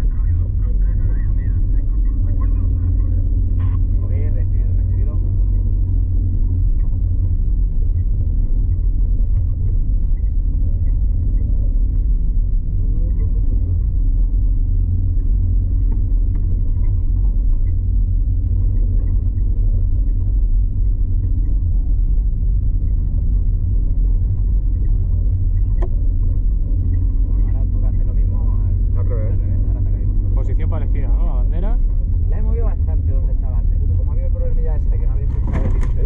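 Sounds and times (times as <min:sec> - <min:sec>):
loud low rumble: 0:00.0 - 0:36.0.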